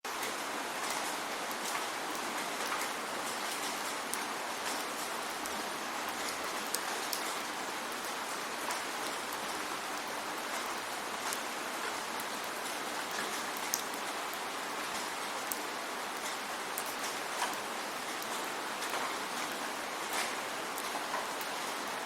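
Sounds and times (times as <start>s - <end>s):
raindrops ticking: 0.1s - 21.7s
steady rain hiss: 0.1s - 22.0s.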